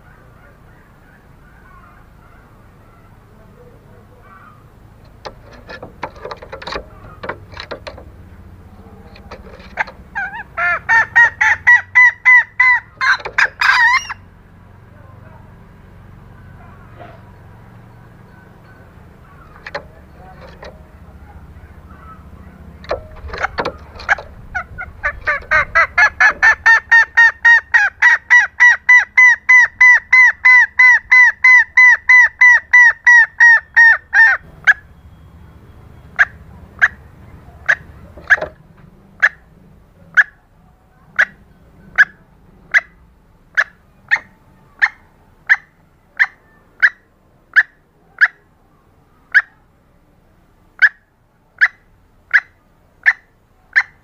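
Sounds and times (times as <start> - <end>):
junglefowl hen clucking: 0.0 - 14.4, 16.5 - 35.0, 36.0 - 38.6, 39.2 - 40.4, 41.0 - 48.5, 49.2 - 49.6, 50.8 - 54.0.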